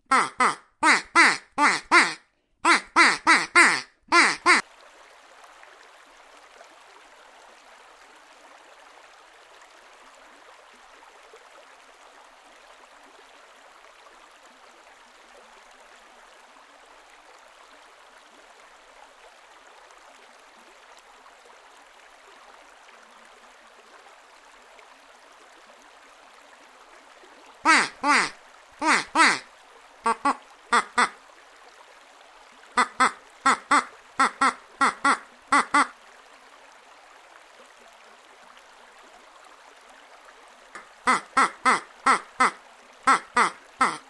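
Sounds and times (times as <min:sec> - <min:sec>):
flowing water: 0:00.0 - 0:44.0.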